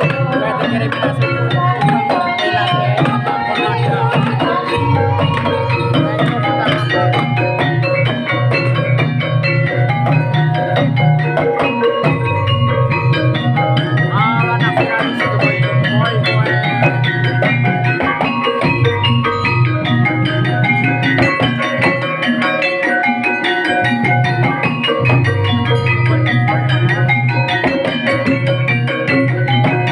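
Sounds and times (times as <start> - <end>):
mallet-struck metallophone notes: 0.0 - 29.9.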